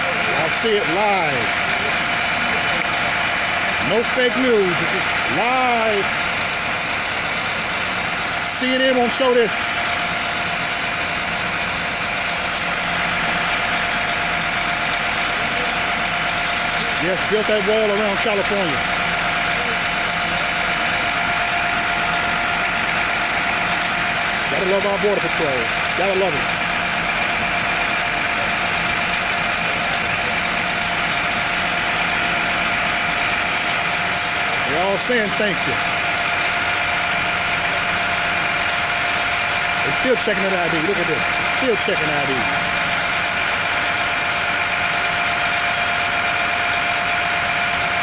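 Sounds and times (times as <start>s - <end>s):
bus diesel engine idling: 0.0s - 48.0s
constant high whine: 0.0s - 48.0s.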